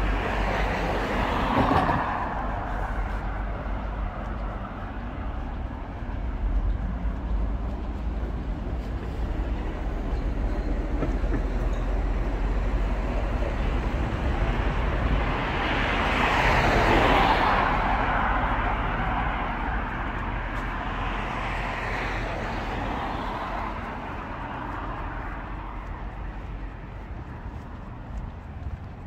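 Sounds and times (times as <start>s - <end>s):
low city rumble: 0.0s - 29.0s.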